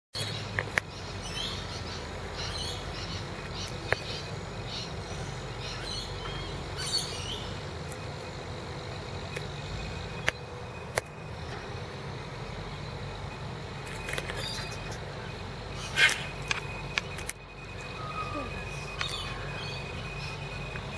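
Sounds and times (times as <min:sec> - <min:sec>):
garbage truck engine rumbling: 0:00.2 - 0:20.9.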